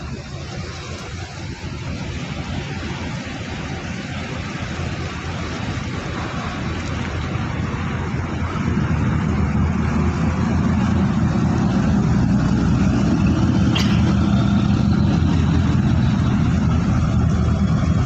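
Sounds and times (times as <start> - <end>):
large engine droning: 0.0 - 18.0.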